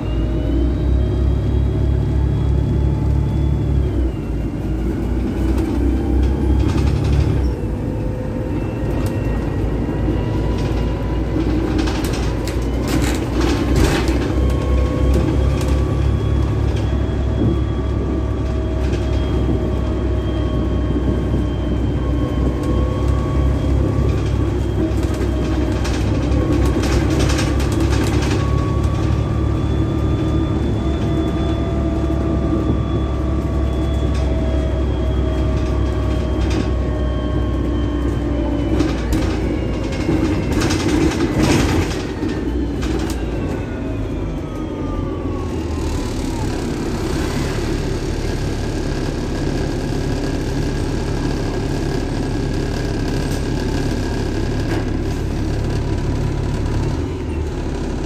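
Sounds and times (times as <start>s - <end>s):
bus engine drone: 0.0s - 58.0s
driveline whine: 0.0s - 58.0s
bus body rattling: 4.4s - 58.0s.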